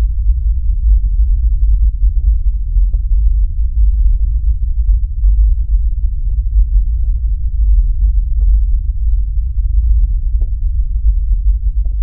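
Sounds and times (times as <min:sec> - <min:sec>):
deep rumbling bass drone: 0:00.0 - 0:12.0.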